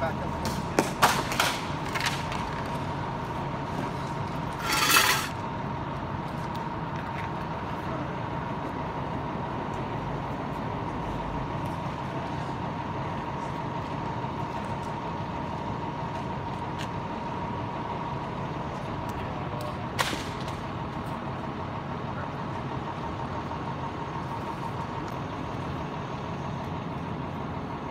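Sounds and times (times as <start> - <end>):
vehicle engine idling: 0.0 - 27.9.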